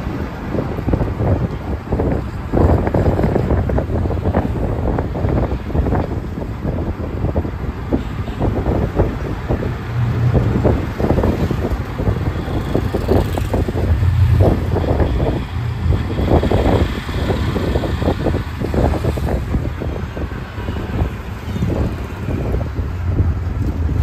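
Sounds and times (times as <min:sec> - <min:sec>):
road vehicle running: 0:00.0 - 0:24.0
wind buffeting microphone: 0:00.0 - 0:24.0.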